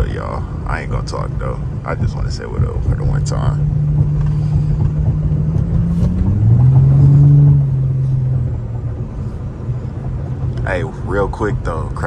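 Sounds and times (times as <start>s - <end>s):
car engine and exhaust accelerating: 0.0s - 12.0s.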